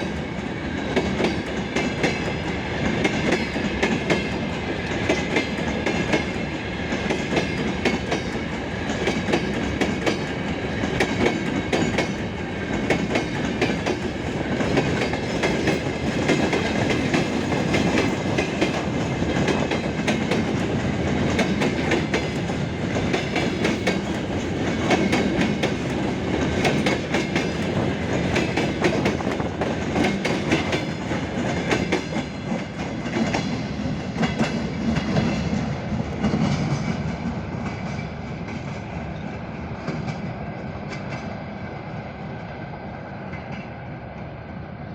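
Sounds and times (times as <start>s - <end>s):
train wheels clattering over rail joints: 0.0s - 41.4s.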